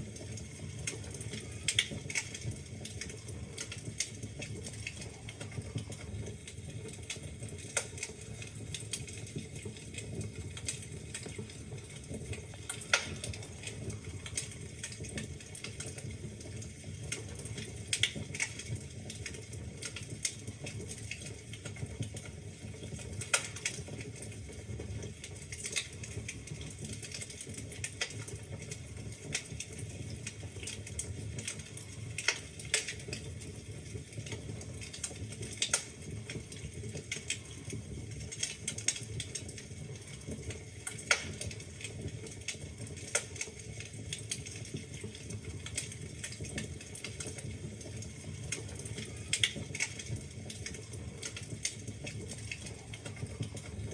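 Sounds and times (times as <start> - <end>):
burning logs crackling and popping: 0.0 - 53.9
low rumble of flames: 0.0 - 53.9.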